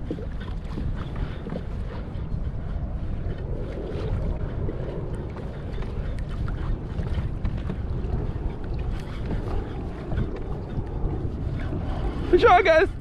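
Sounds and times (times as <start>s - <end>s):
water lapping against kayak: 0.0s - 13.0s
wind rumbling on microphone: 0.0s - 13.0s.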